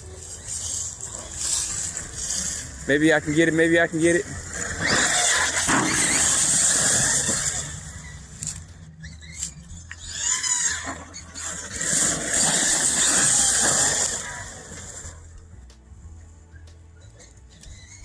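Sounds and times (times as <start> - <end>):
tyre noise on dirt: 0.0 - 15.3
rc truck motor whine: 0.0 - 15.4.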